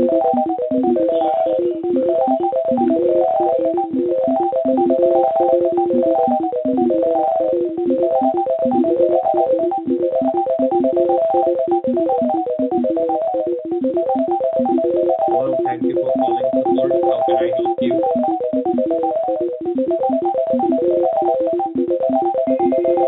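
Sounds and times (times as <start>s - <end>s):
electronic beep tones over telephone: 0.0s - 23.0s.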